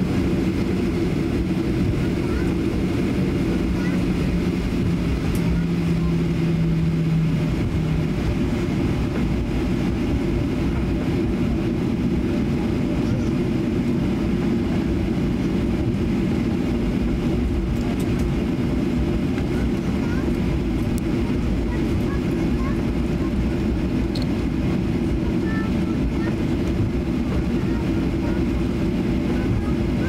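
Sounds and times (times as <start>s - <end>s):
aircraft engines low rumble: 0.0s - 30.0s.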